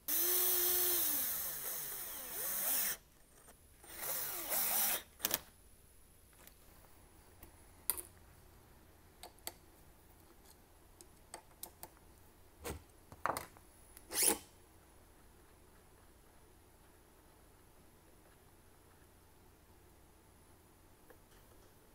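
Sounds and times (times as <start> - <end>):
quiet room hiss: 0.0 - 21.9.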